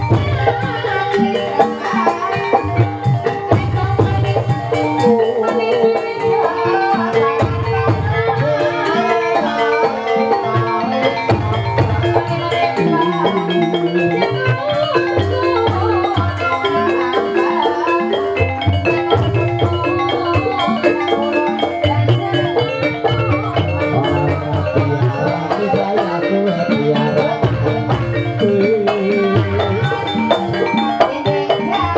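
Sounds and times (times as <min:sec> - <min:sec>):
drums: 0:00.0 - 0:31.9
tuned mallet percussion melody: 0:00.0 - 0:31.9.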